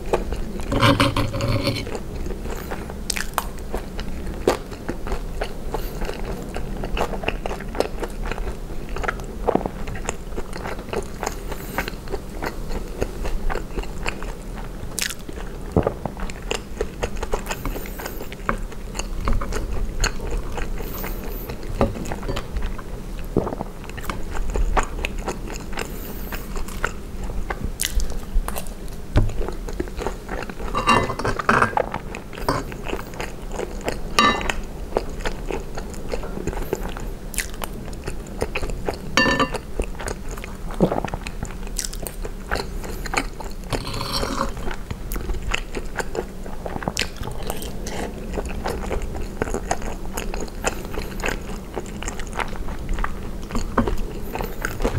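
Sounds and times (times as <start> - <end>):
chewing and wet mouth sounds: 0.0 - 54.9.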